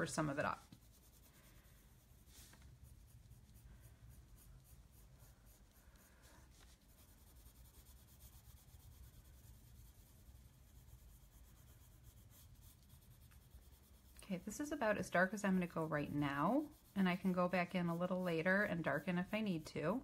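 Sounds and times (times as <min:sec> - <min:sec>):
colored pencil scratching on paper: 0:00.0 - 0:20.0.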